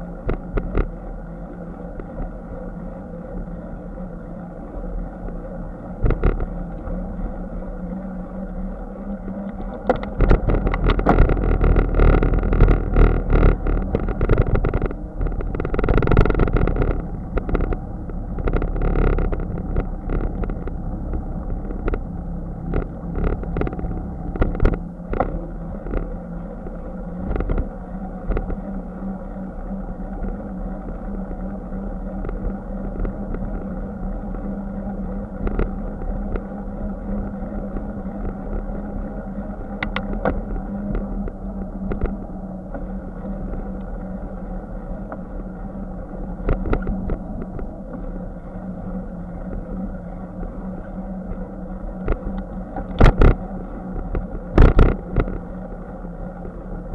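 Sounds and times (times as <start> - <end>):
low hum: 0.0 - 56.9.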